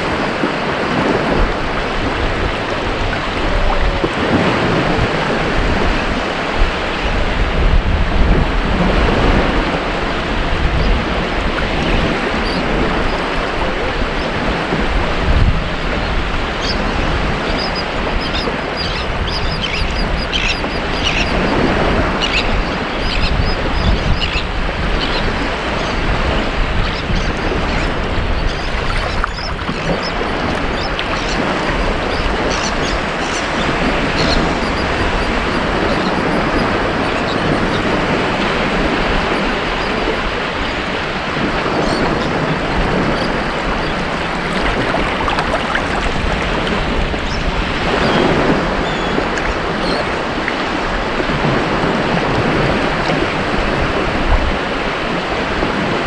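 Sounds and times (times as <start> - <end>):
ocean surf on a beach: 0.0 - 20.4, 27.4 - 56.0.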